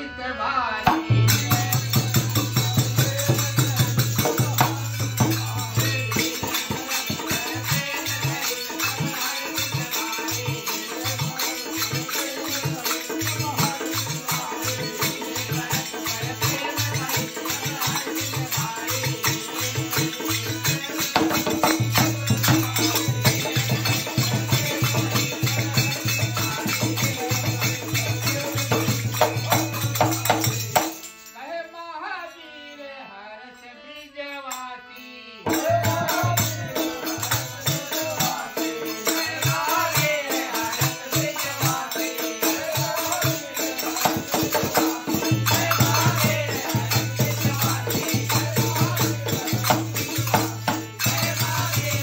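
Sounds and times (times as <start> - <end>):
dholak drum beating: 0.8 - 31.2, 35.4 - 52.0
jangling metal percussion: 1.3 - 31.5, 35.5 - 52.0.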